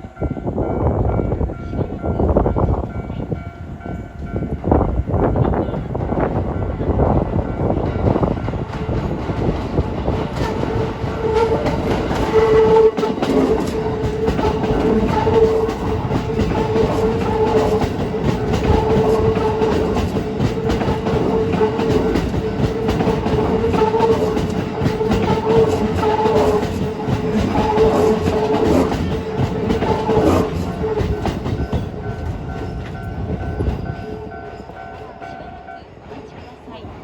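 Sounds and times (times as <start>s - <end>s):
train wheels clacking over joints: 4.0s - 37.0s.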